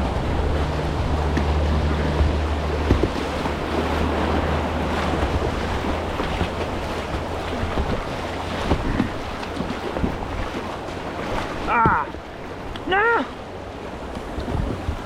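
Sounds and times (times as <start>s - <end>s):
paddle splashes: 0.0s - 15.0s
rushing whitewater: 0.0s - 15.0s
wind buffeting microphone: 0.0s - 15.0s.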